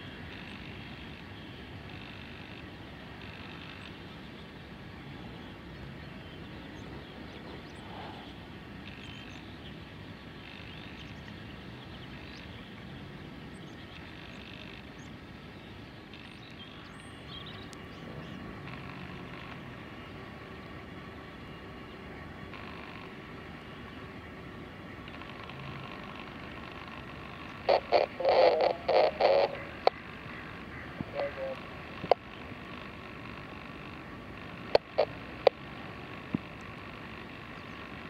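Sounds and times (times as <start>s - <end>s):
distant jet engine whine: 0.0s - 38.0s
outdoor noise: 0.0s - 38.0s.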